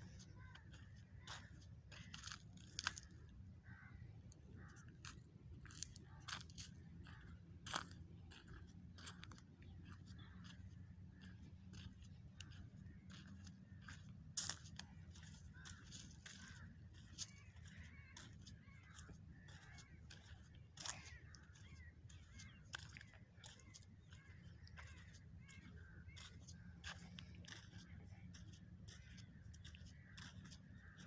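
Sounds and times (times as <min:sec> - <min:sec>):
dry leaves and twigs crunching: 0:00.0 - 0:03.8, 0:04.6 - 0:10.5, 0:11.1 - 0:31.0
low steady hum: 0:00.0 - 0:31.0.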